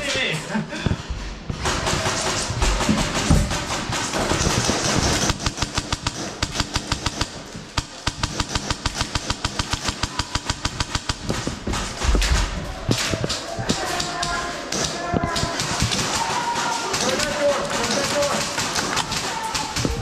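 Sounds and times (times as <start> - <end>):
airsoft gun firing: 1.5 - 20.0
scattered clicks: 3.9 - 20.0.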